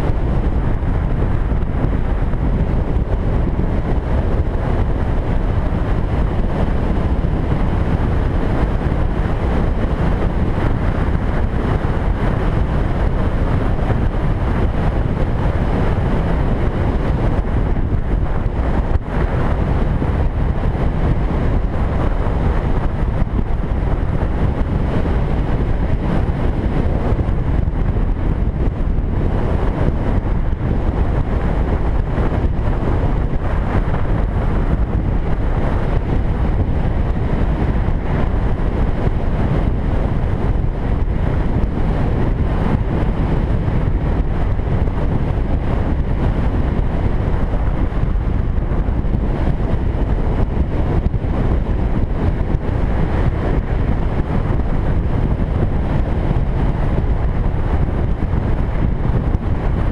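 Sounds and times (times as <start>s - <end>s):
road noise: 0.0s - 59.9s
wind noise on microphone: 0.0s - 59.9s.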